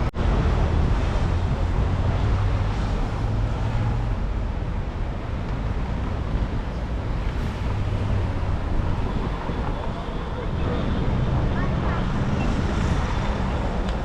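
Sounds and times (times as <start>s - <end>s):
passing traffic: 0.0s - 14.0s
wind rumble on microphone: 0.0s - 14.0s.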